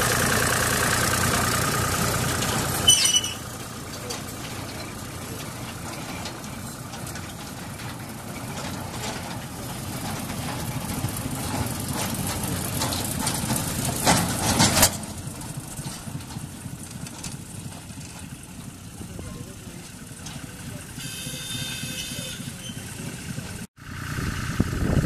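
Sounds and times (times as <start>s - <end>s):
diesel locomotive engine knocking: 0.0s - 25.0s.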